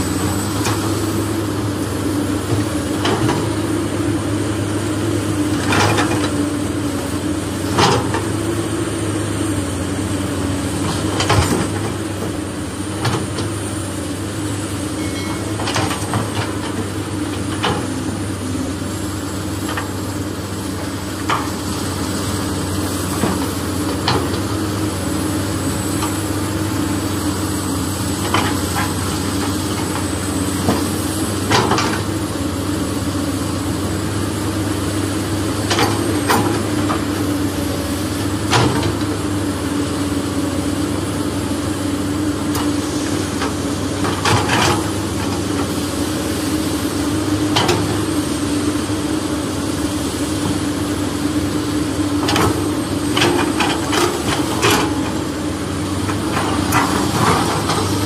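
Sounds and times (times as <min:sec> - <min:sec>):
engine-like drone: 0:00.0 - 0:58.0.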